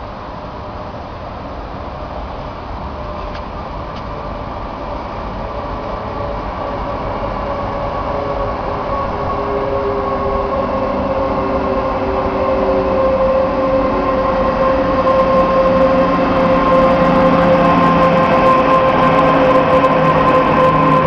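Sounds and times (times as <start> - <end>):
locomotive whine: 0.0 - 21.0
train rumbling past: 0.0 - 21.0.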